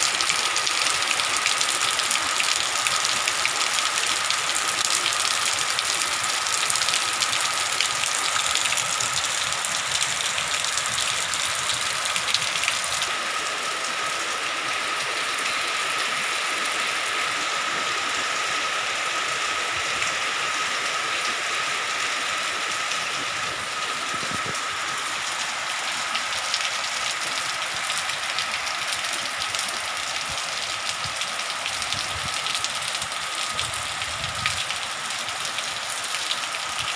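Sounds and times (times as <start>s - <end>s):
heavy rain on trees and ground: 0.0s - 36.9s.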